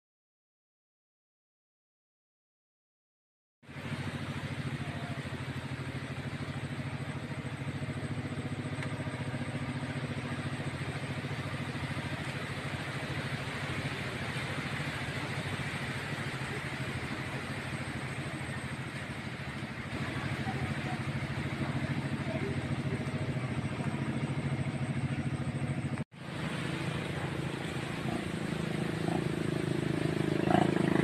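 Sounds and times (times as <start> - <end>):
small engine idling: 3.7 - 31.0.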